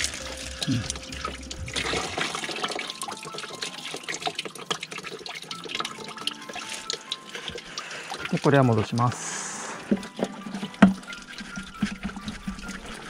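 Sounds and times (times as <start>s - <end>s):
liquid pouring and splashing: 0.0s - 13.0s
rising gurgle: 0.0s - 13.0s.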